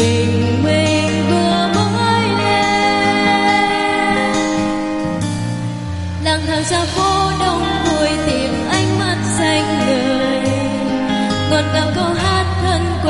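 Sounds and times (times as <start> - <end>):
pop song by small band: 0.0 - 13.0.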